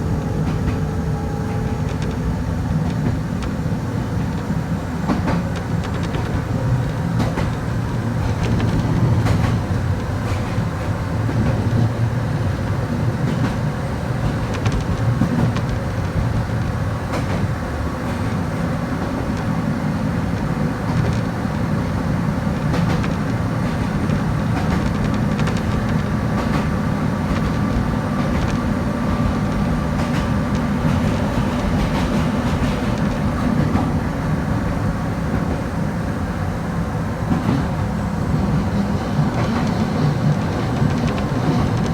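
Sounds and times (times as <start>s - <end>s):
train rumble: 0.0s - 41.9s
wheels clicking over rails: 0.2s - 35.7s, 37.3s - 41.9s.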